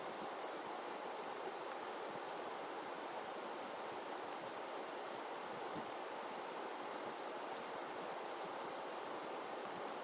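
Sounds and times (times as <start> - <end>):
flowing river water: 0.0 - 10.0.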